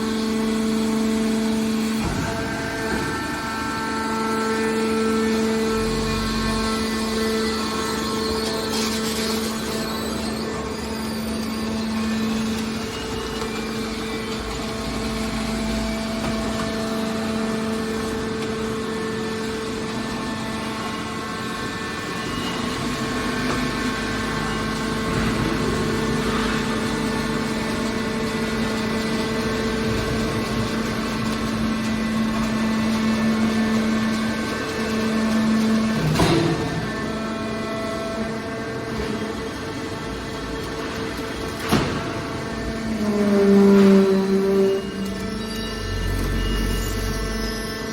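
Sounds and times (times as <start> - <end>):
hydraulic baler machine hum: 0.0 - 47.9.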